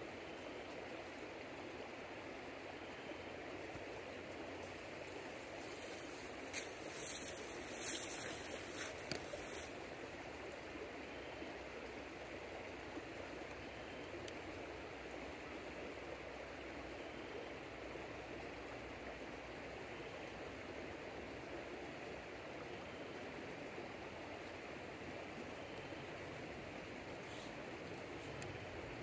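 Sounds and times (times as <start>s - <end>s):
stream water flowing: 0.0s - 29.0s.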